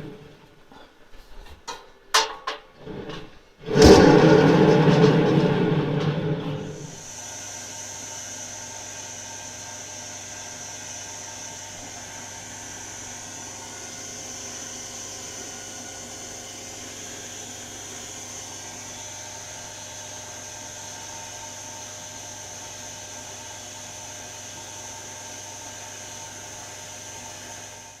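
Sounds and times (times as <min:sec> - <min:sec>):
washing machine whirring hum: 0:02.8 - 0:28.0.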